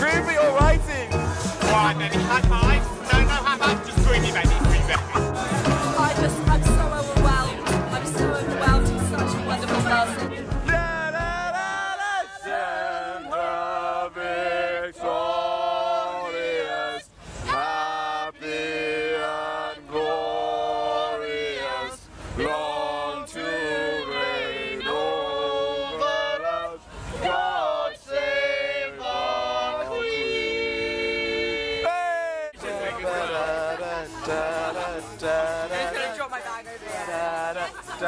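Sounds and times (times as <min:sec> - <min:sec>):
choir singing: 0:00.4 - 0:32.0, 0:32.6 - 0:38.0.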